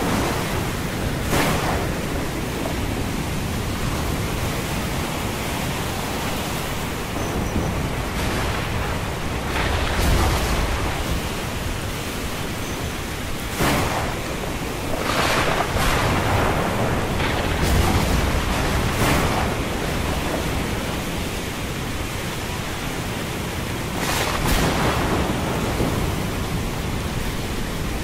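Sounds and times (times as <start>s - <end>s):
rough sea: 0.0s - 28.0s.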